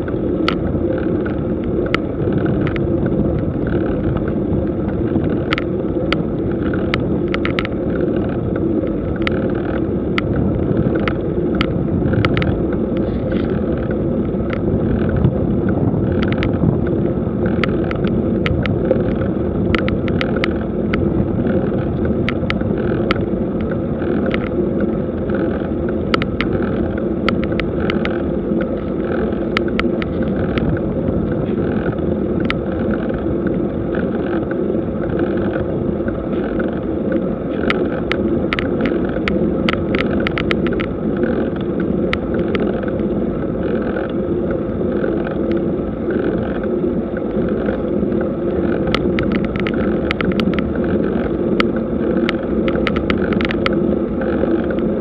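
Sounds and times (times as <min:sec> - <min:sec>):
bicycle tyres rumbling on road: 0:00.0 - 0:55.0
wind on microphone: 0:00.0 - 0:55.0.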